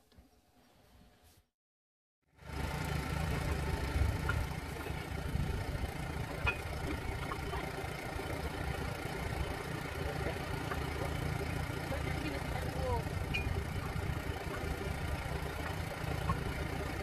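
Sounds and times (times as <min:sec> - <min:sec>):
tire spoons clicking: 0:03.4 - 0:17.0.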